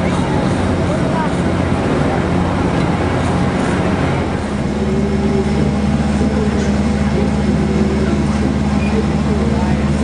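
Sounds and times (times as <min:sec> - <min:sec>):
faint crowd voices: 0:00.0 - 0:10.0
generator and ride machinery drone: 0:00.0 - 0:10.0.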